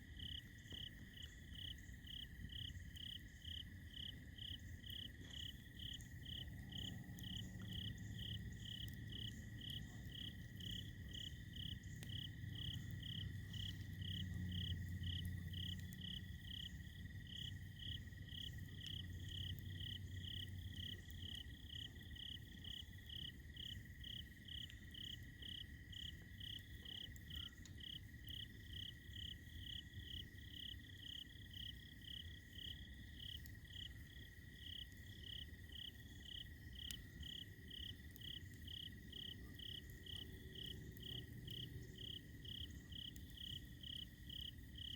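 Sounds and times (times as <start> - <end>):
cricket chirping: 0.0 - 44.9
steady high insect trill: 0.2 - 44.9.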